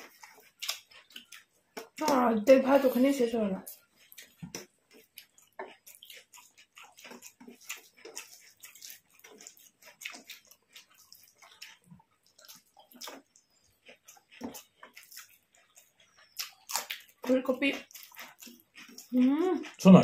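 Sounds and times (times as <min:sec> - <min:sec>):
people chewing food: 0:00.0 - 0:20.0.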